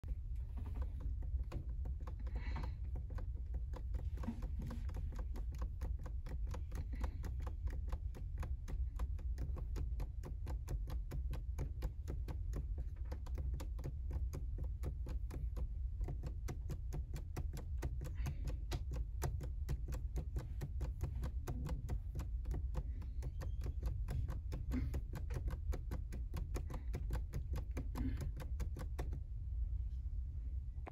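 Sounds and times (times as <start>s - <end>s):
rapid clicking: 0.0s - 29.2s.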